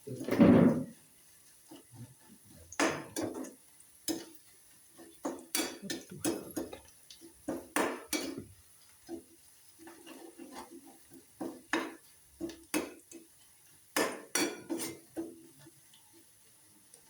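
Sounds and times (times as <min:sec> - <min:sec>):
utensil scraping against a pot: 0:00.1 - 0:16.7.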